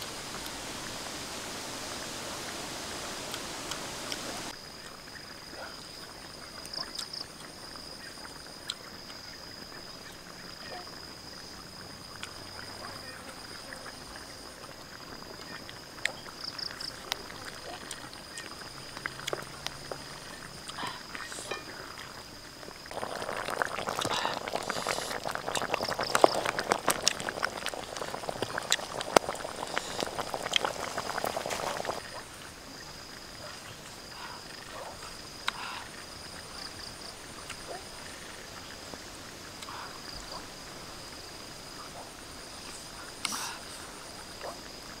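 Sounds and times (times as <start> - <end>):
curry simmering: 0.0 - 45.0
insects chirring: 0.0 - 45.0.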